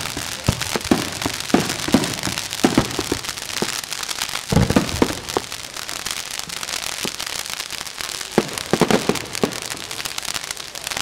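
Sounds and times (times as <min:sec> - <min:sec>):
fireworks deep bangs: 0:00.0 - 0:10.3
crackling hiss of burning fireworks: 0:00.0 - 0:11.0.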